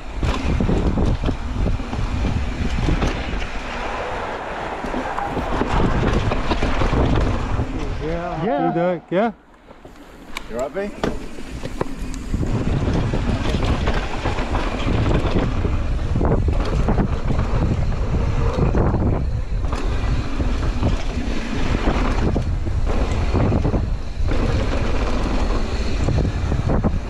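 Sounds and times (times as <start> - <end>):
wind rushing over microphone: 0.0 - 27.0
tyres rolling over dirt: 0.1 - 8.6, 9.6 - 27.0.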